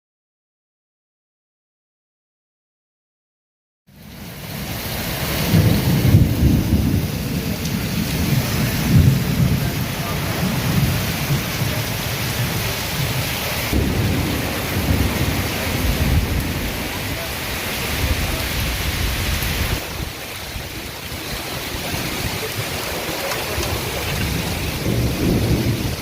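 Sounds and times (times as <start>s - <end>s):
heavy rain: 3.9s - 26.0s
strong gusty wind: 4.1s - 26.0s.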